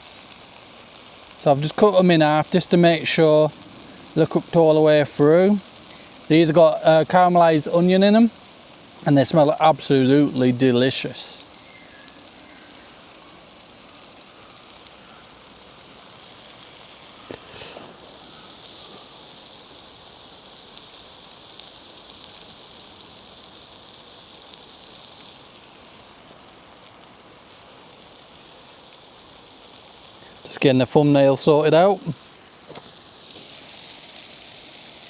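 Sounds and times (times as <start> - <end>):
sausages sizzling in a frying pan: 0.0 - 35.0.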